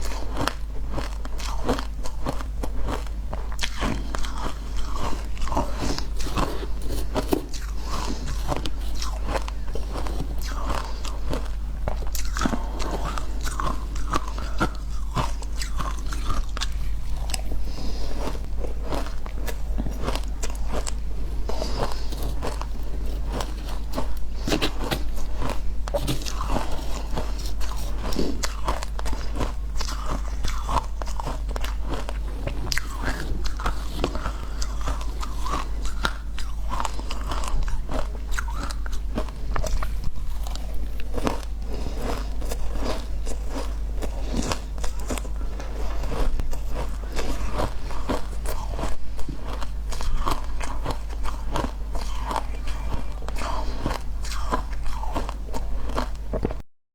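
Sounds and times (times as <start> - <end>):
ice being chewed: 0.0 - 56.6.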